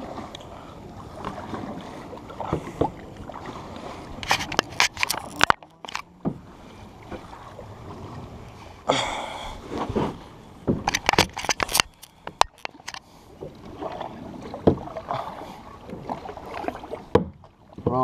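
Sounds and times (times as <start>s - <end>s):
paddle splashing: 0.0s - 18.0s
water rushing against hull: 0.0s - 18.0s.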